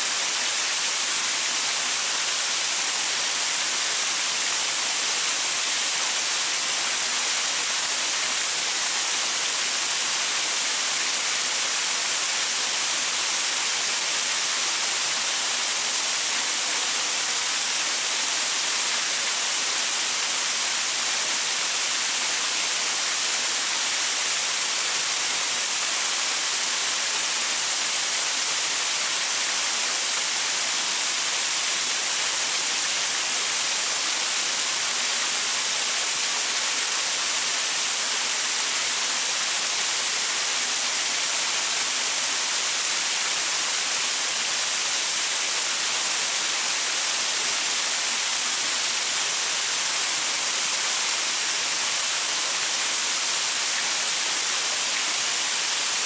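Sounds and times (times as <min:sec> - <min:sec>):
waterfall splashing onto rocks: 0:00.0 - 0:56.0.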